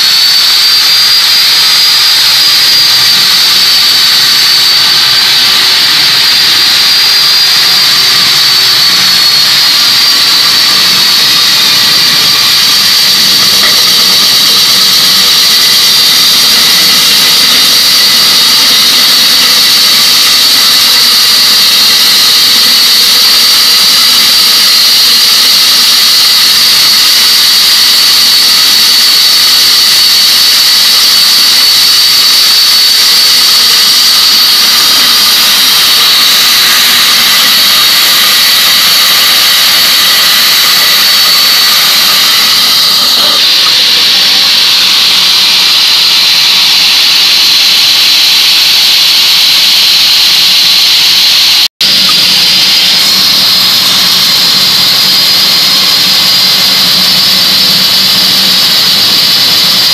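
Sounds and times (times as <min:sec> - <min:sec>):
core drill boring through concrete: 0:00.0 - 0:59.9.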